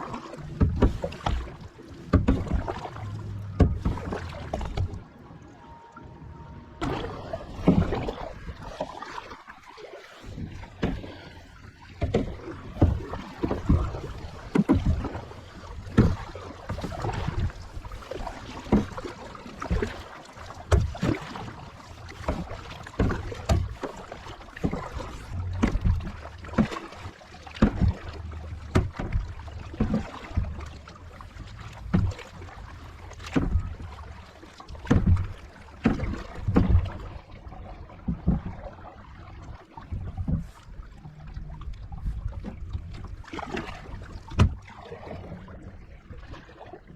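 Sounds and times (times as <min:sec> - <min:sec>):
kayak paddle strokes in water: 0:00.0 - 0:46.9
water splashes and drips: 0:00.0 - 0:46.9.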